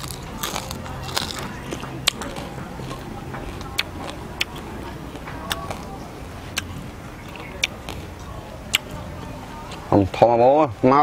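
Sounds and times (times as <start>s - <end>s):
crunchy food being chewed: 0.0s - 9.9s.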